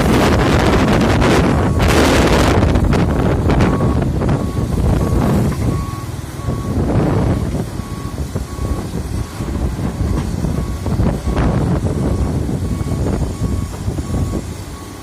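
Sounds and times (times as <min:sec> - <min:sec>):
diesel engine rumbling: 0:00.0 - 0:15.0
engine knocks: 0:00.0 - 0:15.0
reversing alarm beeps: 0:00.6 - 0:02.6, 0:03.5 - 0:15.0.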